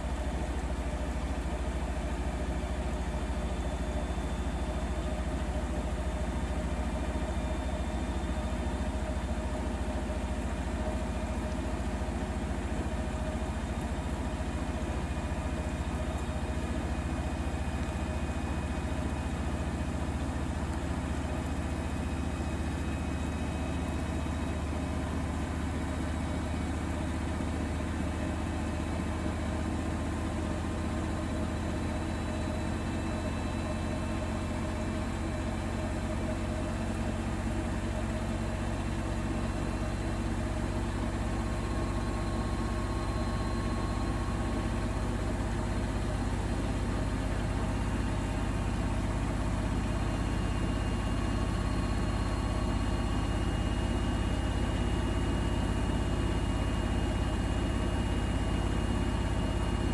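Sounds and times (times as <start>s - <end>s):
washing machine humming and whining: 0.0s - 59.9s.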